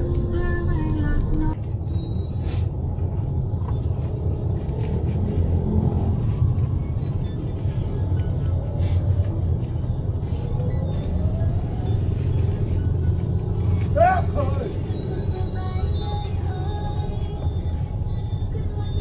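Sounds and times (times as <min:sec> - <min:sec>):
car road rumble: 0:00.0 - 0:19.0.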